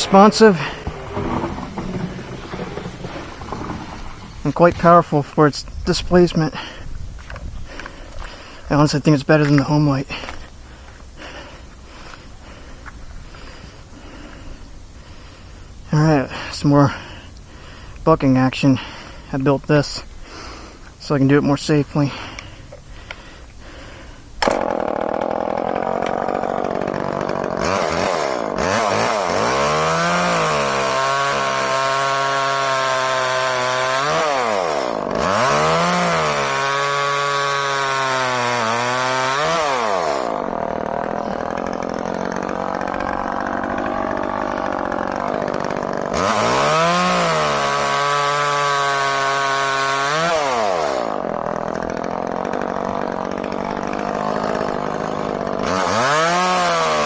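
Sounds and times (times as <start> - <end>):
chainsaw cutting wood: 0.0 - 15.7, 18.8 - 57.0.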